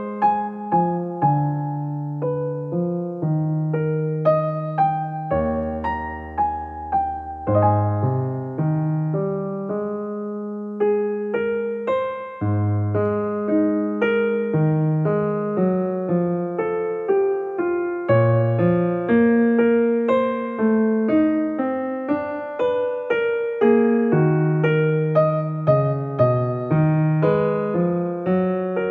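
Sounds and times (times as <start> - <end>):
solo piano music: 0.0 - 28.9.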